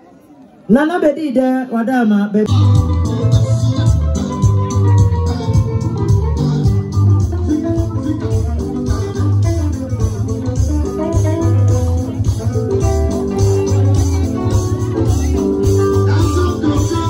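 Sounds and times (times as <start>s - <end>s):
plucked guitar: 2.5s - 17.0s
pulsing bass beat: 2.5s - 17.0s.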